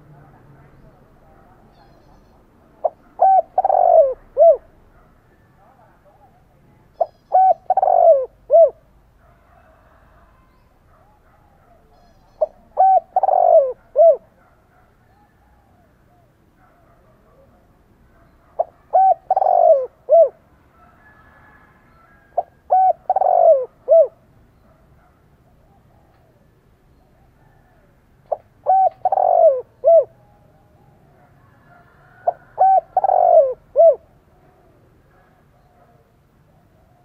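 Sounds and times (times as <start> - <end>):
dove cooing: 0.0 - 5.0, 7.0 - 10.0, 11.0 - 17.4, 18.4 - 37.0.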